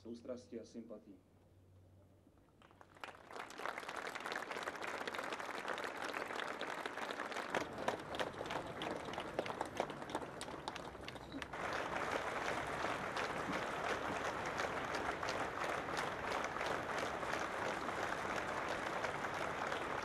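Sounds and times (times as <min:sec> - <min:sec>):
large crowd applauding: 0:02.6 - 0:20.0.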